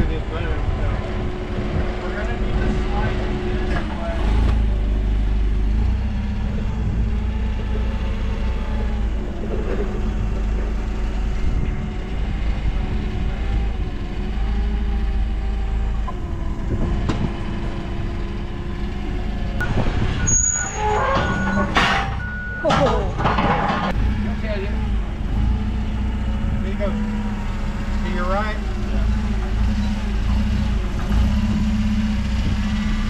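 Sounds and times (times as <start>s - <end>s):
forklift engine running under load: 0.0s - 33.0s.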